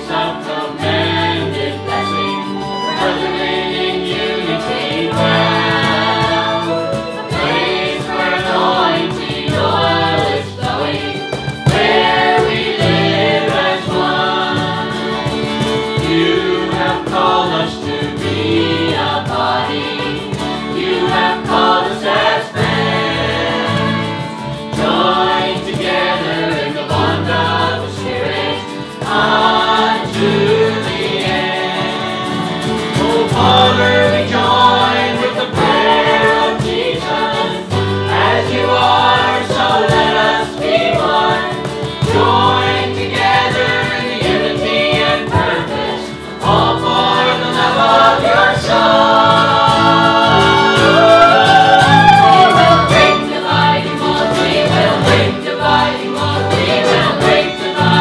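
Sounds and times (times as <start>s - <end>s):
acoustic guitar: 0.0s - 58.0s
cajon: 0.0s - 58.0s
group of women singing: 0.0s - 58.0s
violin: 0.0s - 58.0s.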